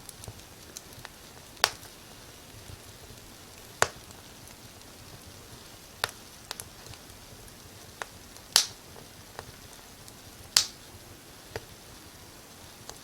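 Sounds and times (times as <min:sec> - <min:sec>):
faint steady hiss: 0:00.0 - 0:13.0
wood fire crackling and popping: 0:00.0 - 0:13.0.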